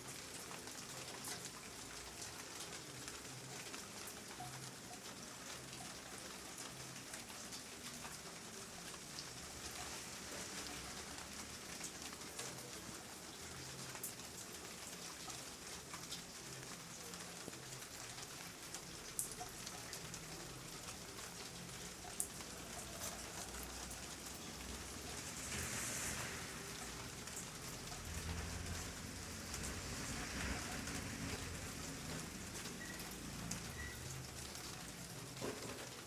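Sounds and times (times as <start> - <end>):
raindrops ticking: 0.0 - 36.0
steady rain hiss: 0.0 - 36.0.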